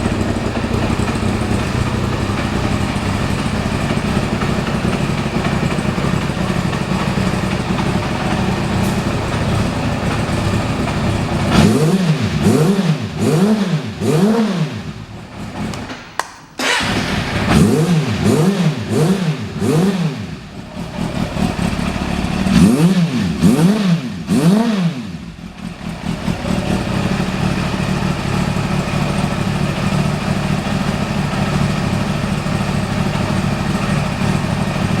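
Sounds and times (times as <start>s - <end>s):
motorcycle engine idling: 0.0s - 15.9s, 16.6s - 35.0s
motorcycle engine revving: 0.0s - 15.9s, 16.6s - 35.0s.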